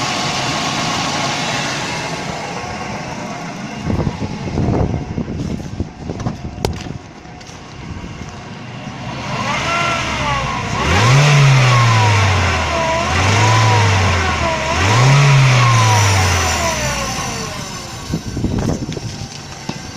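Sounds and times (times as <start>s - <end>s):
car engine revving: 0.0s - 6.9s, 7.7s - 18.9s
drive belt roller whine: 0.0s - 19.9s.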